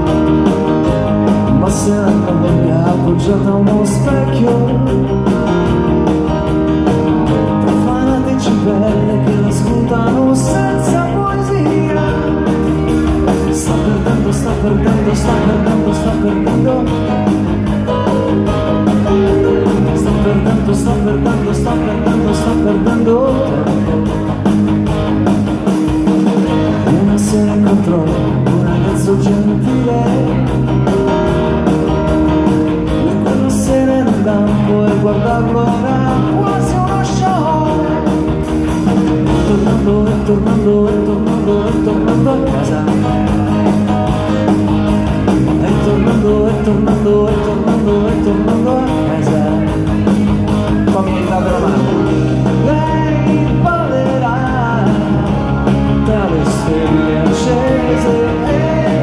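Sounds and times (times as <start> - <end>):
man singing: 0.0 - 6.6, 7.2 - 24.6, 26.4 - 59.0
pop song on keyboard: 0.0 - 59.0
steady drum beat: 0.0 - 59.0.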